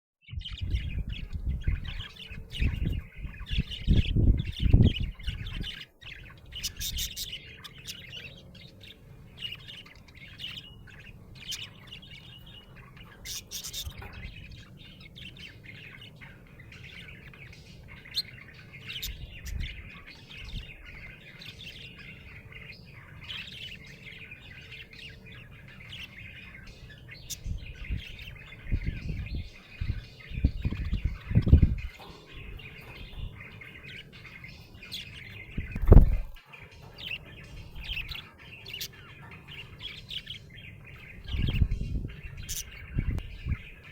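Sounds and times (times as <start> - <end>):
budgerigar chirping and chattering: 0.4 - 43.9.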